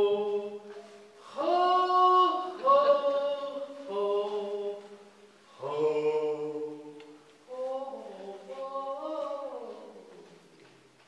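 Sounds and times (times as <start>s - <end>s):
chant-like singing: 0.0s - 10.3s.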